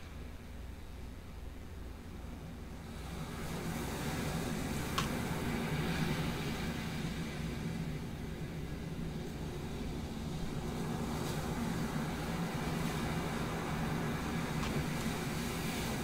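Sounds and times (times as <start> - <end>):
room noise hiss: 0.0 - 16.0.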